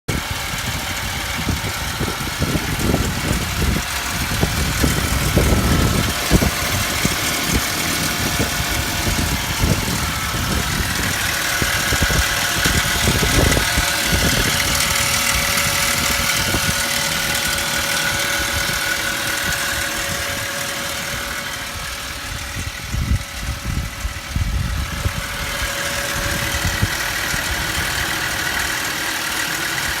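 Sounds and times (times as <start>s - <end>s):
car engine running: 0.1s - 30.0s.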